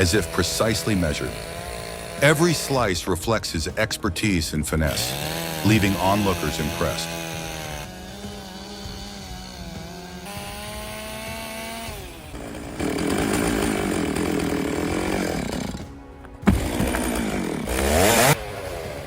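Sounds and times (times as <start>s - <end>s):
power saw cutting wood: 0.0s - 19.0s.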